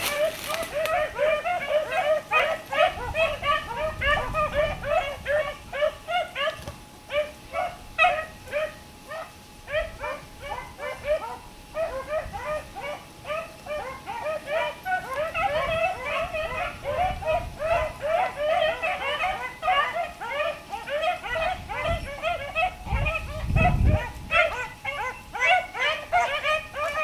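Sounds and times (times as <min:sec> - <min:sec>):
hounds baying: 0:00.0 - 0:27.0.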